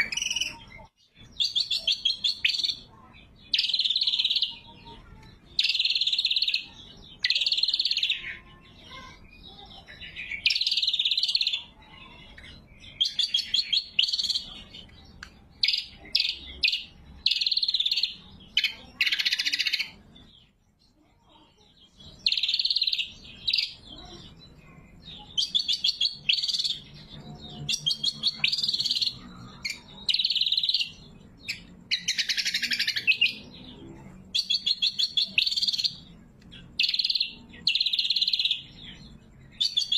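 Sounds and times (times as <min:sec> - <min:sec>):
bird singing high phrases: 0:00.0 - 0:39.9.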